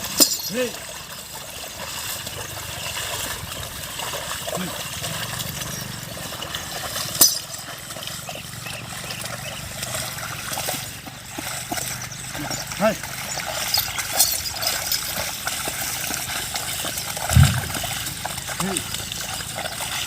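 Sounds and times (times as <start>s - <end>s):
water and mud sloshing: 0.0s - 20.0s.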